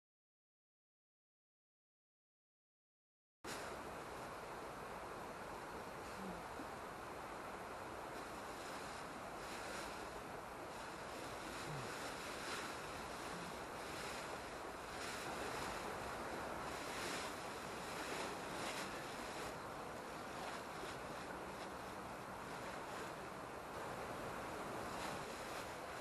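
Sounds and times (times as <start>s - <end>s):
steady rushing noise: 3.5s - 26.0s.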